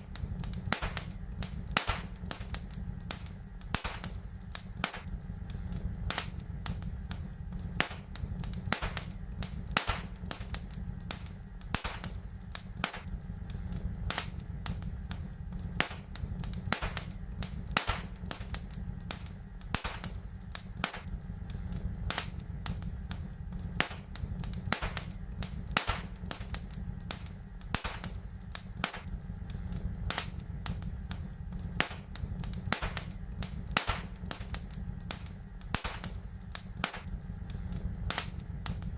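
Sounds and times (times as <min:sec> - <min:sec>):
fireplace fire crackling: 0:00.0 - 0:38.9
sharp pops and snaps: 0:00.0 - 0:38.9
steady low rumble: 0:00.0 - 0:38.9.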